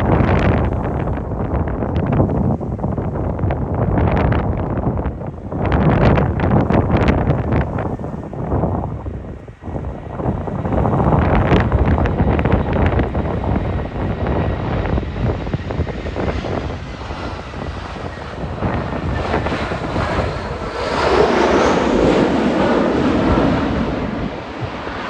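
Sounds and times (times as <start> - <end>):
jet engines: 0.0 - 25.0
wind buffeting microphone: 0.0 - 25.0.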